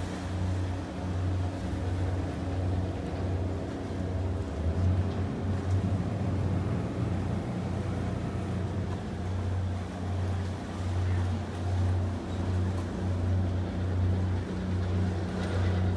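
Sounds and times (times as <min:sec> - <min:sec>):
boat engine drone: 0:00.0 - 0:15.9
water noise: 0:00.0 - 0:15.9
wind: 0:00.0 - 0:15.9.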